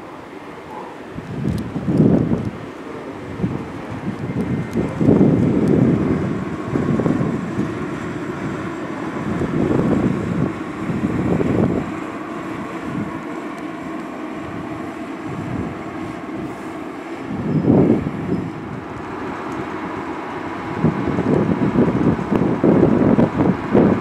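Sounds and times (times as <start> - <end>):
faint steady hum: 0.0 - 24.0
train wheels rumbling on rails: 0.0 - 24.0.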